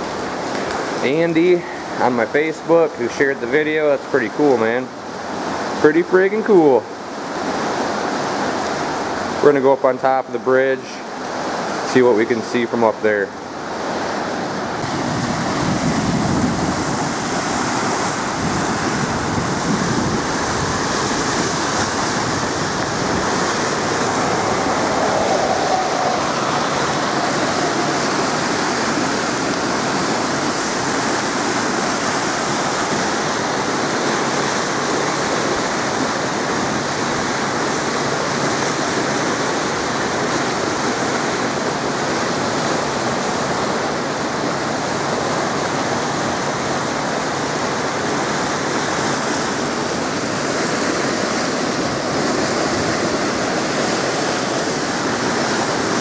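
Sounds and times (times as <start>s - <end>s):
water rushing through dam gates: 0.0s - 56.0s.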